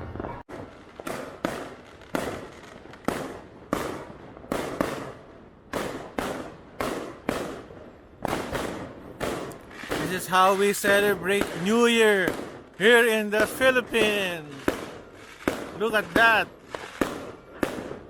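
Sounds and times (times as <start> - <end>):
firecrackers banging: 0.1 - 18.0.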